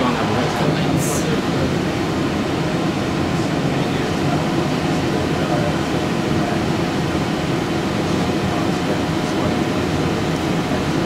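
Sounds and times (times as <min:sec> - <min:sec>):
film projector whirring: 0:00.0 - 0:11.0.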